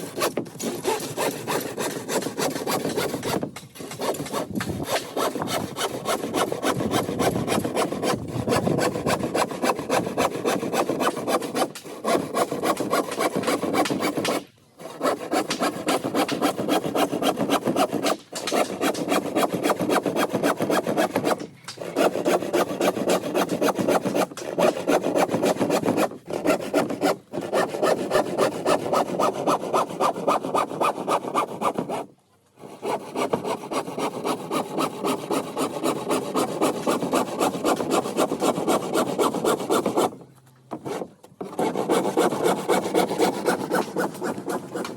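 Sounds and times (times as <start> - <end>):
hand saw cutting wood: 0.0 - 44.9.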